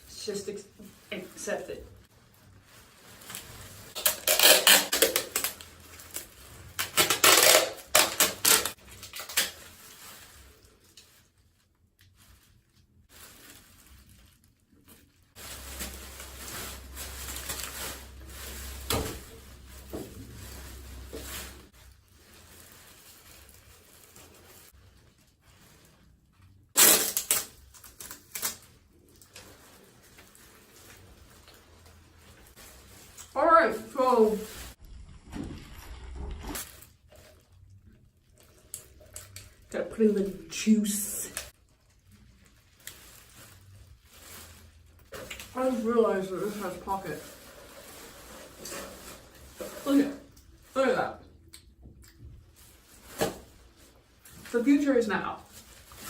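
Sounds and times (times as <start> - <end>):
plastic crackling and rustling: 0.1 - 56.0.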